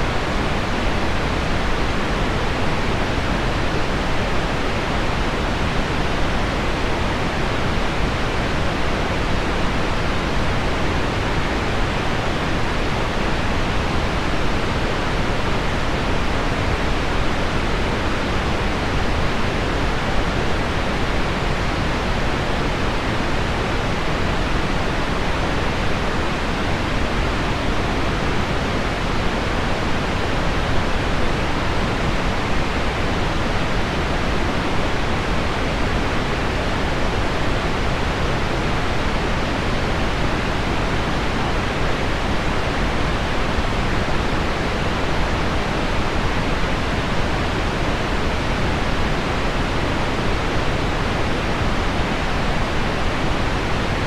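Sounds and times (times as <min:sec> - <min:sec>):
low pink noise hiss: 0:00.0 - 0:54.0.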